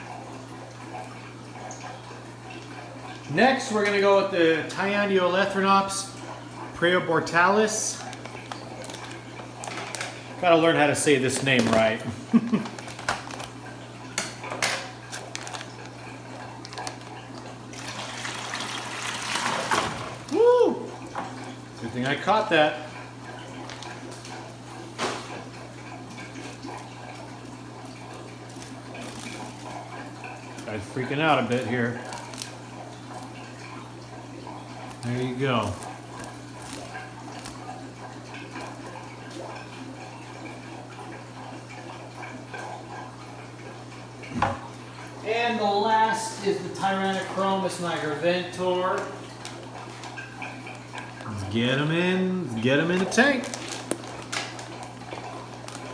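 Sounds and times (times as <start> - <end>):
water pouring into plastic bucket: 2.5 - 55.9.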